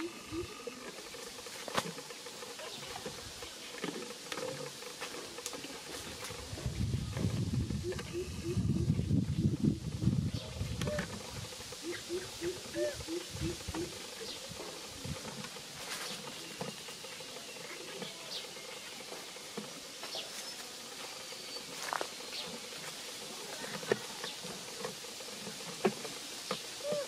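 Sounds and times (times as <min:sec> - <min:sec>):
leaves and twigs rustling: 0:00.0 - 0:08.1, 0:09.9 - 0:27.0
insects hissing: 0:00.0 - 0:27.0.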